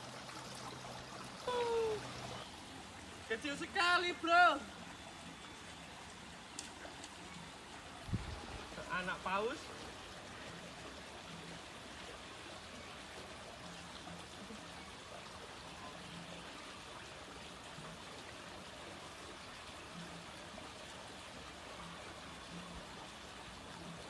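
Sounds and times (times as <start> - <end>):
running water trickling: 0.0 - 24.0.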